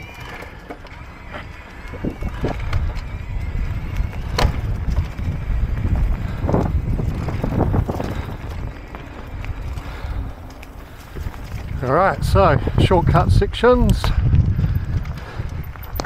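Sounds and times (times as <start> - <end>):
bike knocking and rattling: 0.0 - 16.0
bike tyres rumbling on dirt: 0.0 - 16.0
wind buffeting microphone: 0.0 - 16.0.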